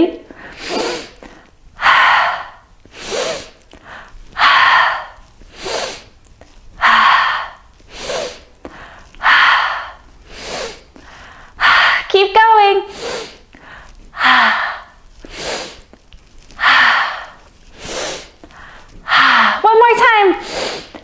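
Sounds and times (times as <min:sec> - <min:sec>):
woman breathing deeply: 0:00.2 - 0:12.2, 0:12.8 - 0:19.7, 0:20.4 - 0:21.0.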